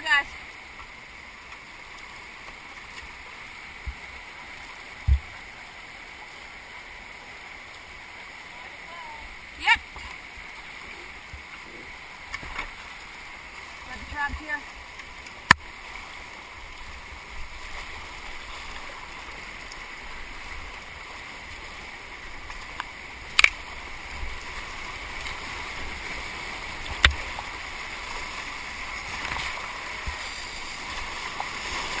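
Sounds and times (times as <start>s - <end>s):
river water rushing and splashing: 0.0s - 32.0s.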